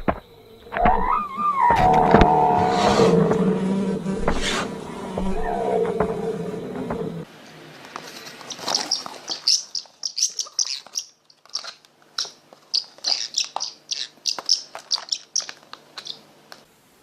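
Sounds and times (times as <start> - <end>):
bird chirping: 0.3 - 7.2, 8.4 - 16.2.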